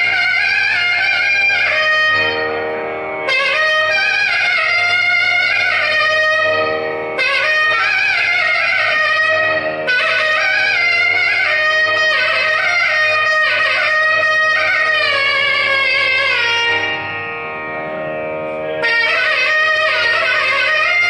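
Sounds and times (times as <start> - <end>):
reed pipe melody: 0.0 - 21.0
steady drone: 0.0 - 21.0.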